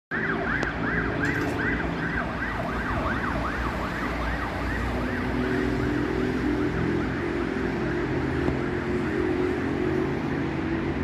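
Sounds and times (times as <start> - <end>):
ambulance siren: 0.1 - 11.0
traffic rumble: 0.2 - 11.0.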